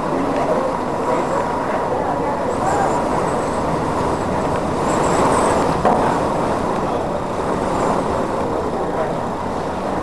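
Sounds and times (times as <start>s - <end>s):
hurricane wind rushing: 0.0s - 10.0s.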